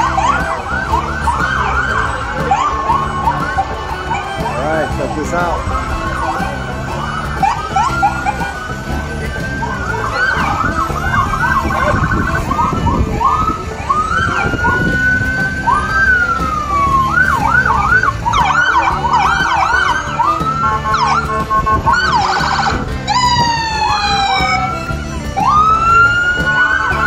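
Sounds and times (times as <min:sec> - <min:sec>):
sirens wailing and yelping: 0:00.0 - 0:27.0.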